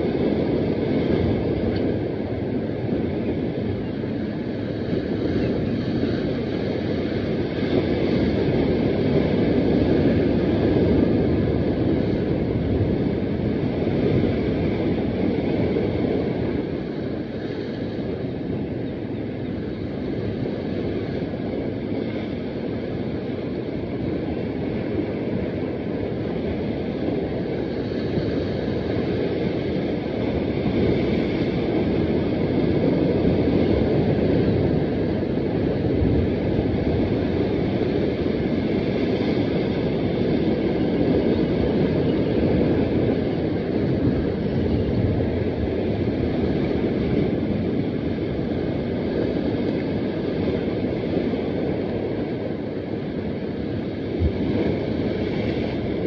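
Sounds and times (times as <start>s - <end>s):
surf washing against rocks: 0.0s - 56.0s
wind buffeting microphone: 0.0s - 56.0s.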